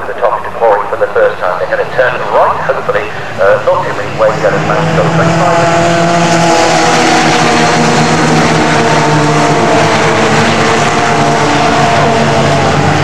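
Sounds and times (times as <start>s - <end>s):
race cars accelerating: 0.0s - 13.0s.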